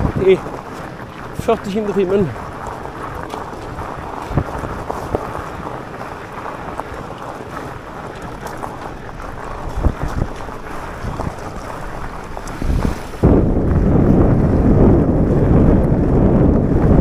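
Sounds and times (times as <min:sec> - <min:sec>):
bike tyres rolling over gravel: 0:00.0 - 0:17.0
wind on microphone: 0:00.0 - 0:17.0.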